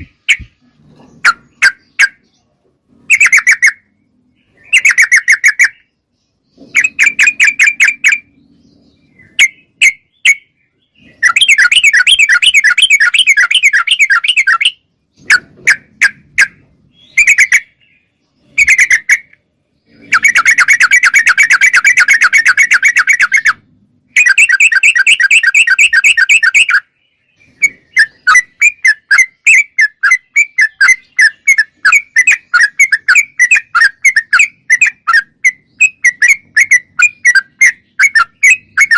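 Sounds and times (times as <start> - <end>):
bulbul chattering calls: 3.0 - 38.9.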